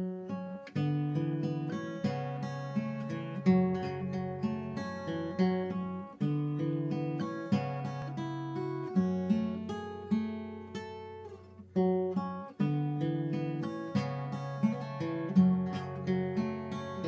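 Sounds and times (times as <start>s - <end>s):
fingerstyle acoustic guitar: 0.0s - 17.0s.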